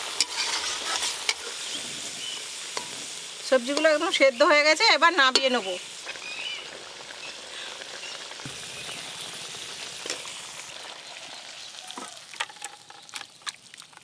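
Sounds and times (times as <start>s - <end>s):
curry cooking with steady hiss: 0.0s - 14.0s.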